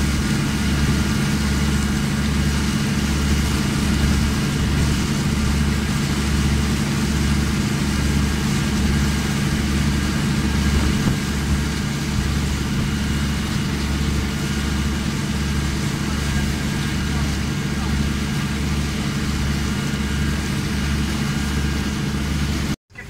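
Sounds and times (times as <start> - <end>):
boat engine running steadily: 0.0 - 23.0.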